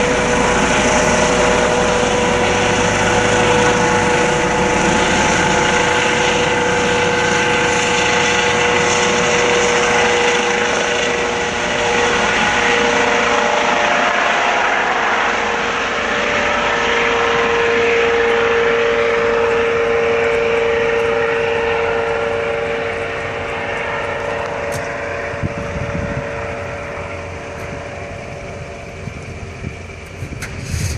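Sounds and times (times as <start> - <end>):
helicopter engine and rotor: 0.0 - 30.9.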